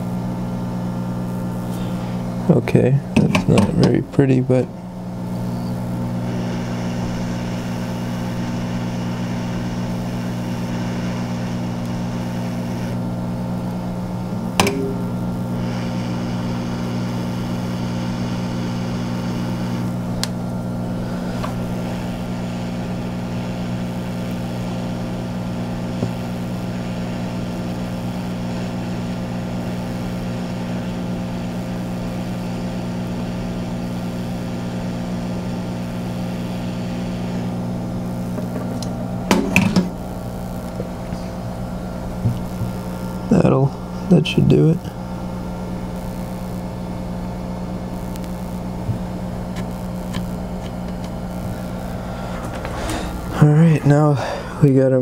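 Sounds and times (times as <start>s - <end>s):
fan hum: 0.0s - 55.0s
hot air hissing: 1.4s - 3.8s, 5.1s - 54.8s.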